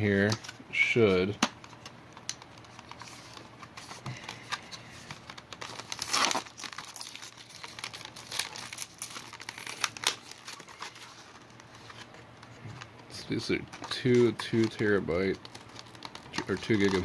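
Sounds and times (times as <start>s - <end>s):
plastic packaging crinkling: 2.6s - 17.0s.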